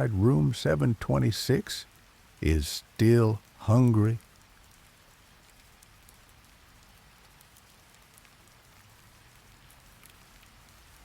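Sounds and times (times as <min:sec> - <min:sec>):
faint steady rain: 0:00.0 - 0:11.0.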